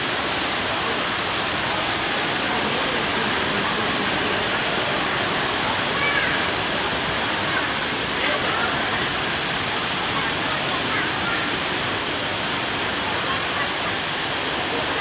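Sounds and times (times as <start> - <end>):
waterfall pouring into a pool: 0.0 - 15.0.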